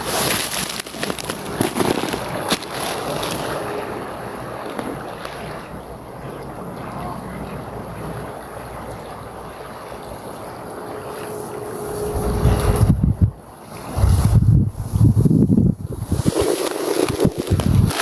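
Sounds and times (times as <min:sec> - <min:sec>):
wind buffeting microphone: 0:00.7 - 0:18.0.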